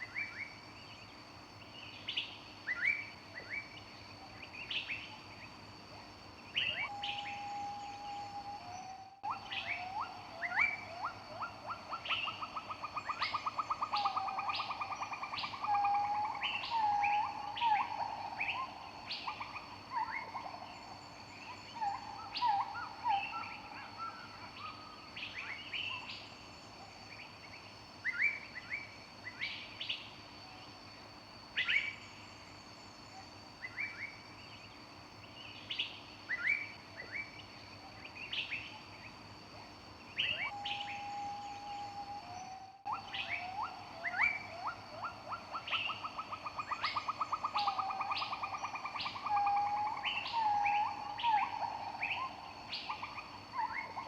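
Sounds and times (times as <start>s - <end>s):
songbirds singing: 0.0s - 30.9s, 31.5s - 54.0s.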